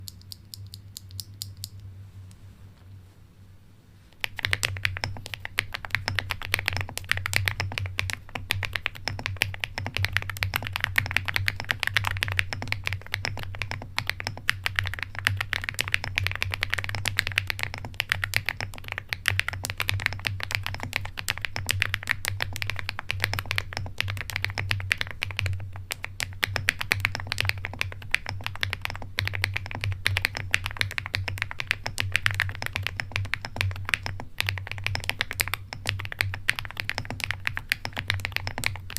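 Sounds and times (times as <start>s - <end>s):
fast mechanical keyboard typing: 4.2s - 38.9s.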